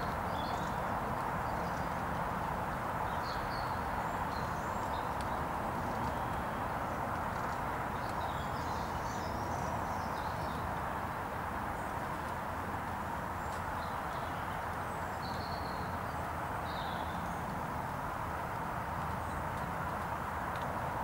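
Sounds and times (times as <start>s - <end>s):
songbirds twittering: 0.0s - 21.0s
steady background noise: 0.0s - 21.0s.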